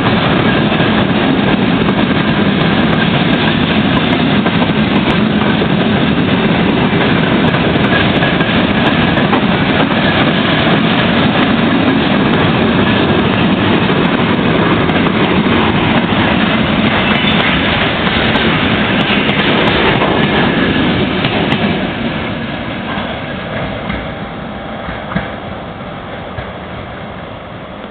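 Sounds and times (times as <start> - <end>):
freight train wheels clattering: 0.0 - 27.2.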